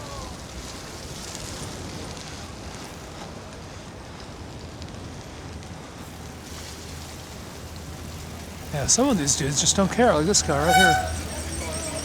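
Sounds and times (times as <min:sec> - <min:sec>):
bicycle tyres through wet slush: 0:00.0 - 0:12.0.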